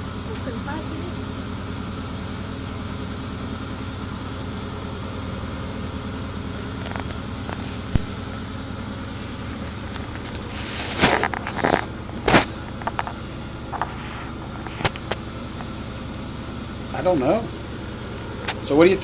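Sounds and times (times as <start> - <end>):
shaking machine humming: 0.0 - 19.0.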